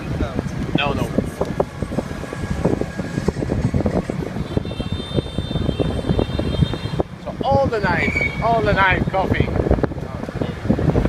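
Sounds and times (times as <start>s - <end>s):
motorbike engine rumble: 0.0s - 11.0s.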